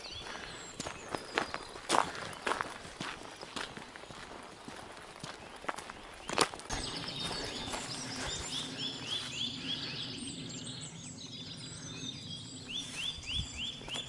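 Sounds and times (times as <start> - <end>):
songbird chirping: 0.0 - 14.0
woodland background hiss: 0.0 - 14.0.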